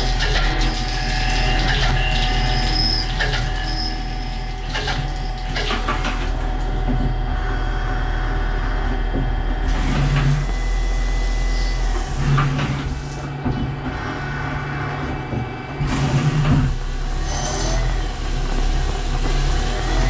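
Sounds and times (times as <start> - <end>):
high machine whine: 0.0 - 20.0
lathe mechanical hum: 0.0 - 20.0.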